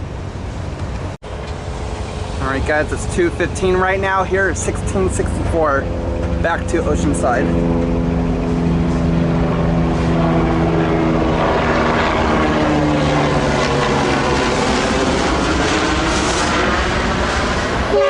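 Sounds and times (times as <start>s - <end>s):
train wheels and rail noise: 0.0s - 10.8s, 13.4s - 18.0s.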